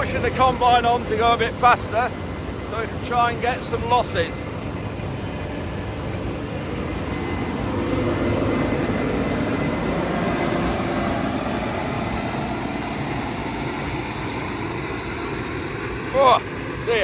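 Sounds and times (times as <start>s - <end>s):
combine harvester passing: 0.0s - 17.0s.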